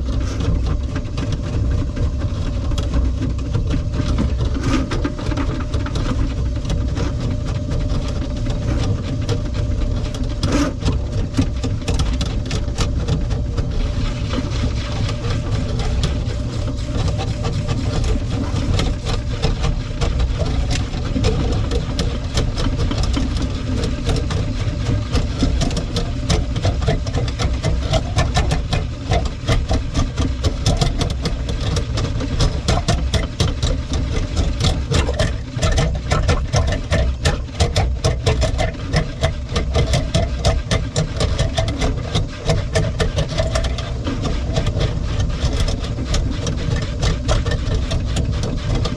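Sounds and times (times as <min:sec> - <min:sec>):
drain cleaning machine motor hum: 0:00.0 - 0:48.9
spinning cable rattling and clicking: 0:00.0 - 0:48.9.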